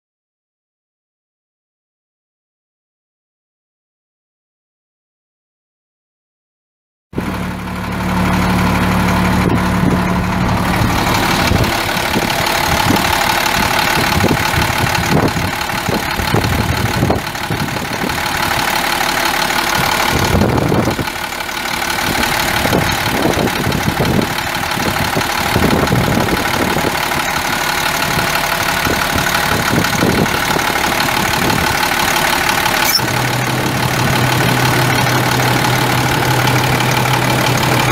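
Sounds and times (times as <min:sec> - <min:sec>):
diesel engine idling: 0:07.2 - 0:37.9.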